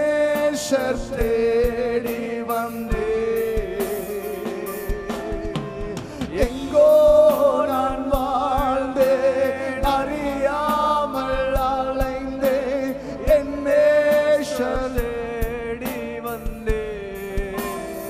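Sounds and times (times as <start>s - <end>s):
instrumental accompaniment with beat: 0.0s - 18.0s
man singing worship song: 0.0s - 18.0s.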